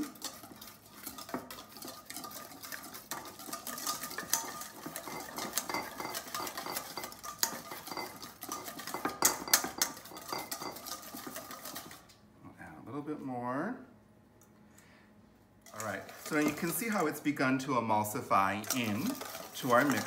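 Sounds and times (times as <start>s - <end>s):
whisk beating in metal bowl: 0.0s - 12.1s, 15.6s - 20.0s.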